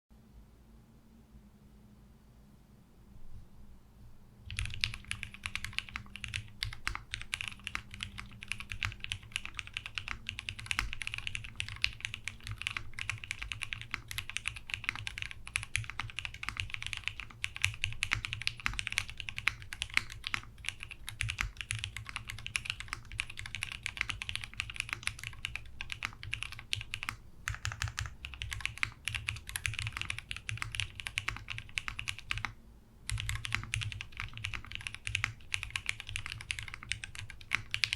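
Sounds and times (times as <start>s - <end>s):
fast mechanical keyboard typing: 4.5s - 37.9s.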